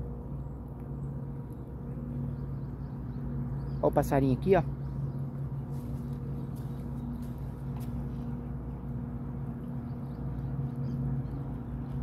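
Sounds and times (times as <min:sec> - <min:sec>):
distant motor humming: 0:00.0 - 0:12.0.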